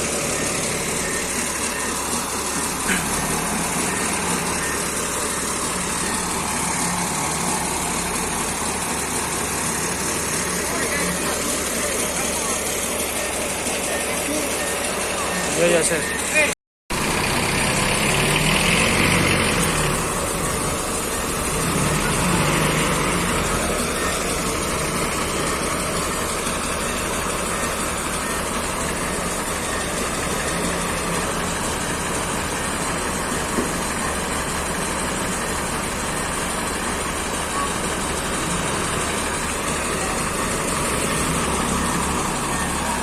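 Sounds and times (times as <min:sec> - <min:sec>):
forklift engine running: 0:00.0 - 0:43.0.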